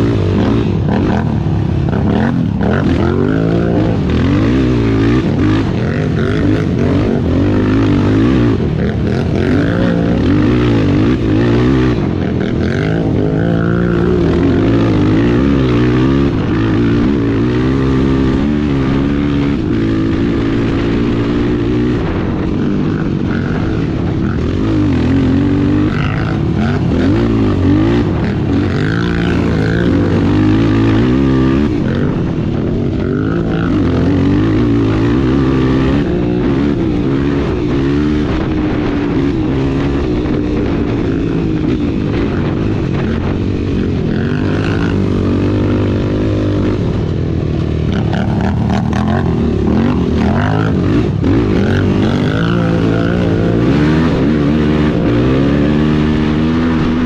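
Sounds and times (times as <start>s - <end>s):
racing engine revving: 0.0s - 57.0s.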